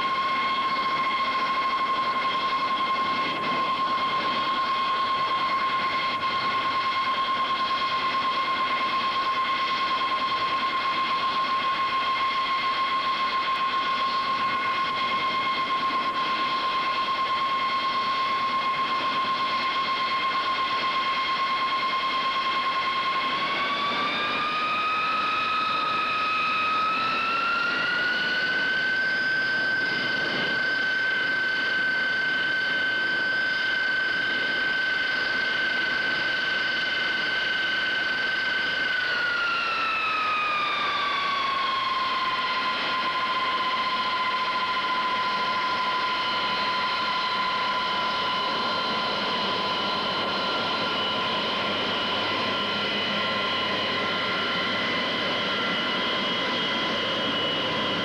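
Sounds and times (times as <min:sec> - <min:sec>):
jet engine whine: 0:00.0 - 0:58.0.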